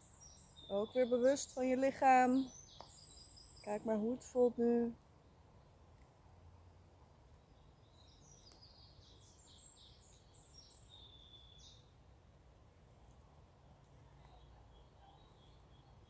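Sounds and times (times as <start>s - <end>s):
songbird singing: 0.0s - 6.2s, 7.1s - 12.1s, 13.1s - 16.0s.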